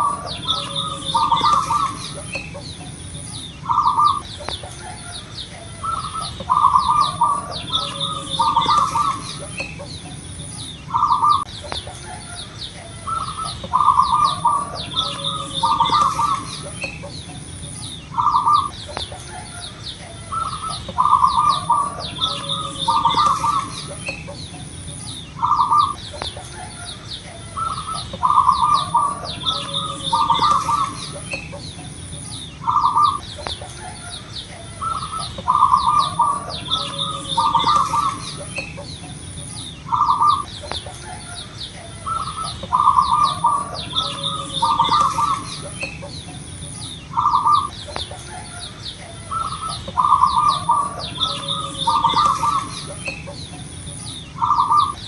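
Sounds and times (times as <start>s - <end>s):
dove cooing: 0.0s - 55.0s
small birds chirping: 0.0s - 55.0s.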